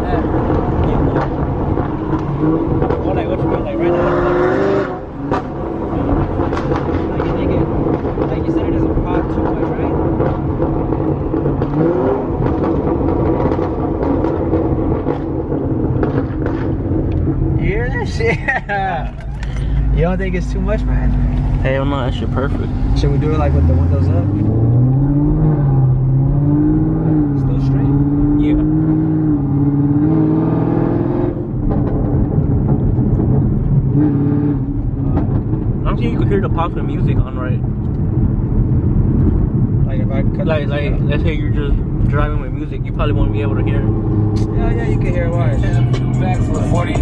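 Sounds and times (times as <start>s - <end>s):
exhaust crackles and pops: 0.0s - 3.9s, 4.8s - 23.9s, 31.4s - 47.0s
car exhaust drone: 0.0s - 47.0s.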